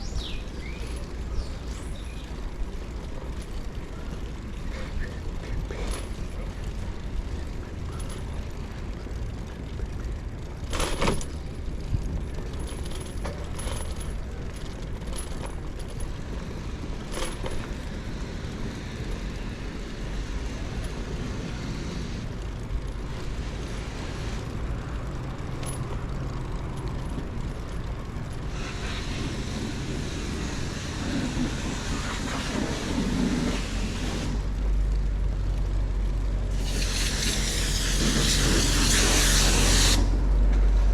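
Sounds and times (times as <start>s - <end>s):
bicycle clicks and rattles: 0.0s - 40.9s
low rumble of traffic: 0.0s - 40.9s
vehicles passing: 0.0s - 40.9s.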